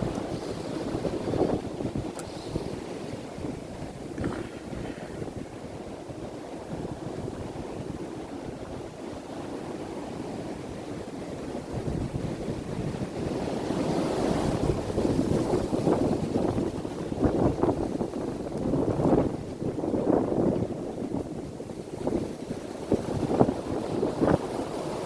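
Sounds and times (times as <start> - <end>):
wind gusting against microphone: 0.0 - 25.0.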